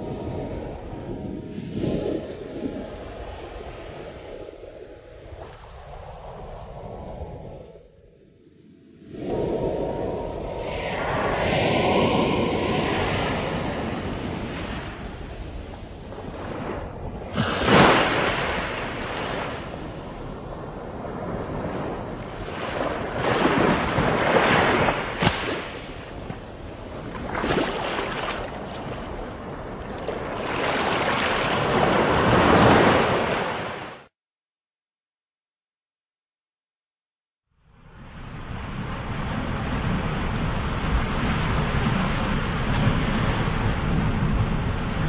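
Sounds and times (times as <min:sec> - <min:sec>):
ocean waves breaking: 0:00.0 - 0:34.1, 0:37.8 - 0:45.0.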